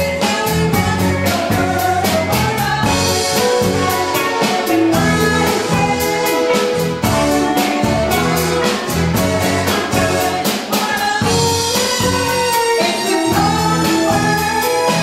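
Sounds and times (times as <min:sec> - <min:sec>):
drum kit beat: 0:00.0 - 0:15.0
electric guitar: 0:00.0 - 0:15.0
woman singing: 0:00.0 - 0:15.0.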